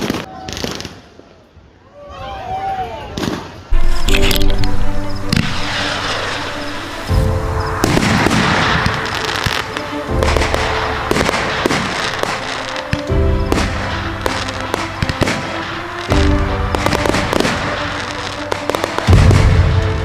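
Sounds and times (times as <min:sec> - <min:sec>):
fireworks shots and crackling: 0:00.0 - 0:01.4, 0:03.2 - 0:20.0
background music: 0:03.7 - 0:20.0.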